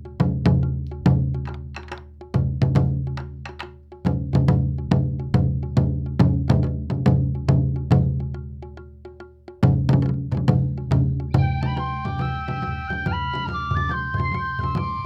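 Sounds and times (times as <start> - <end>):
taiko drums: 0.0 - 15.0.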